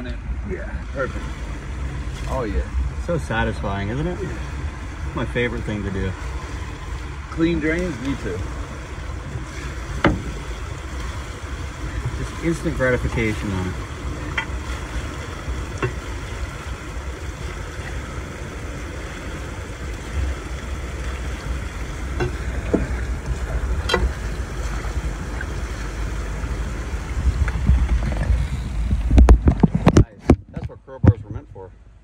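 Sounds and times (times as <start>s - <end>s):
low rumble: 0.0s - 32.0s.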